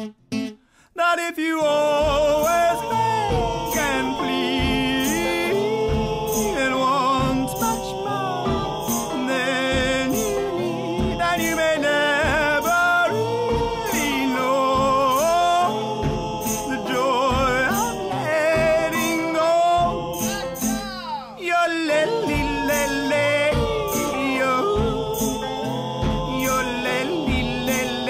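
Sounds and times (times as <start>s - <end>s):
steady drum beat: 2.0s - 21.2s, 22.1s - 28.0s
wavering sung melody: 2.6s - 28.0s.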